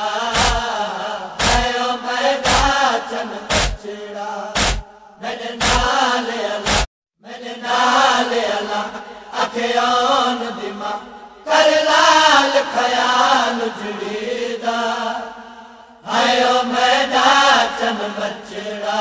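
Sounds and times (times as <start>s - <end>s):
person chanting a mournful lament: 0.0s - 19.0s.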